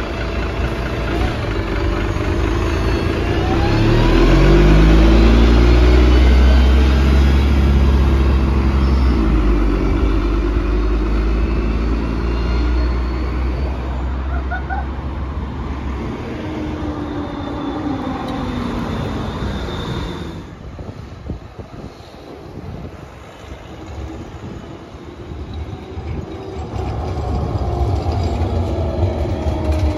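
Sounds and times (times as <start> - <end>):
bus engine pulling away: 0.0 - 29.9
tram motors whining: 0.0 - 29.9.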